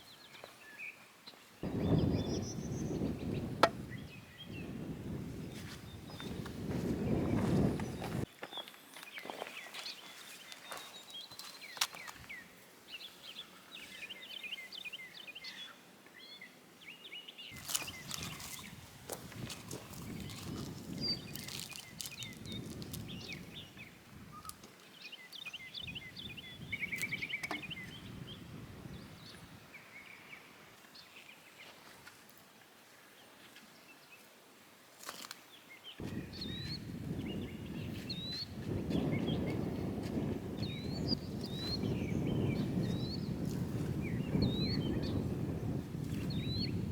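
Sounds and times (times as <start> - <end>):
small birds chirping: 0.0 - 4.8, 5.4 - 31.7, 35.1 - 46.9.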